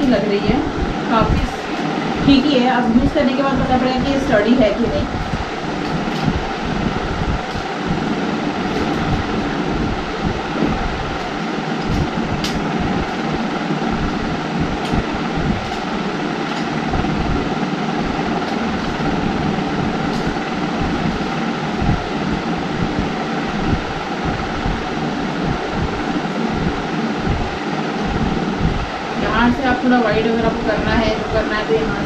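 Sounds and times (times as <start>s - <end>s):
loud rumbling: 0.0s - 32.0s.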